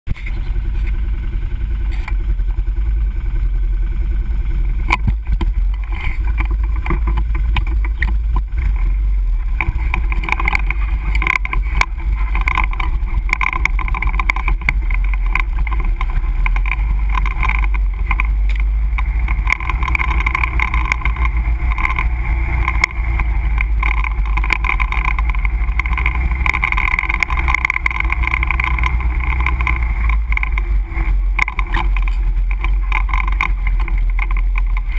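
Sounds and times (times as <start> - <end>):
quad engine rumble: 0.0 - 34.9
knocks and rattles over bumps: 4.7 - 34.9.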